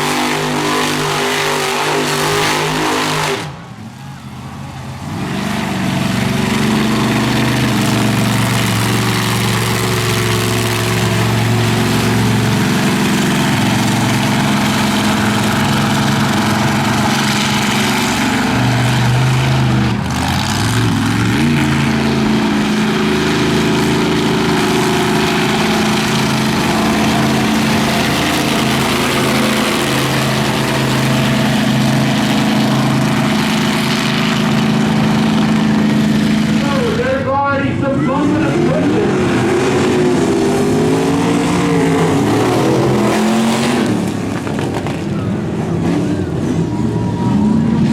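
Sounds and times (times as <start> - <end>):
monster truck engines idling: 0.0 - 47.9.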